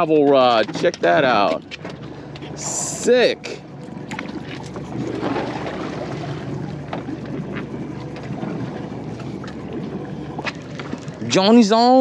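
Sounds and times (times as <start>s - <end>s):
low steady hum: 0.0s - 12.0s
water around boat: 0.0s - 12.0s
wind: 0.0s - 12.0s.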